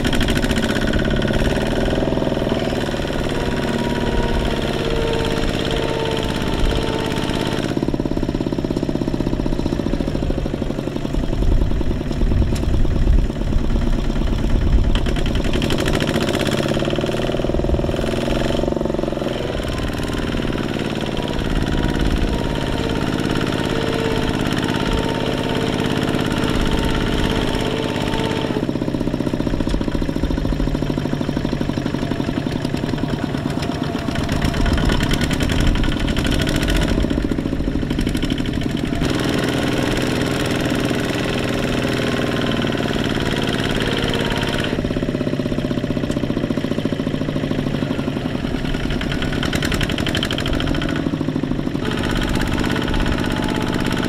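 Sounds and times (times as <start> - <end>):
diesel tractor engine chugging: 0.0 - 54.0.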